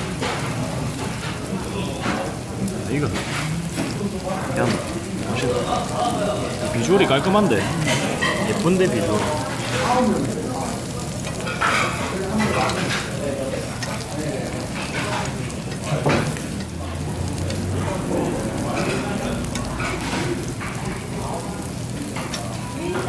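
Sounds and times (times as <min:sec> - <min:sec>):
ribs sizzling on grill plate: 0:00.0 - 0:23.0.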